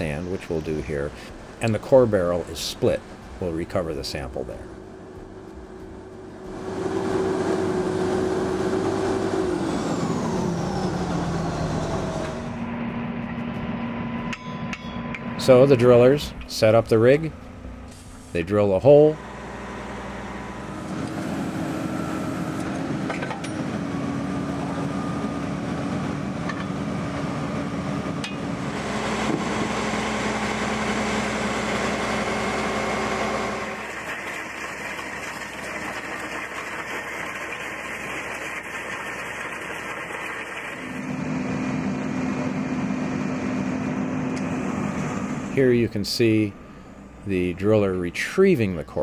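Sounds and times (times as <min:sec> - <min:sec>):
drill rig engine drilling: 0:00.0 - 0:12.9, 0:15.4 - 0:47.8.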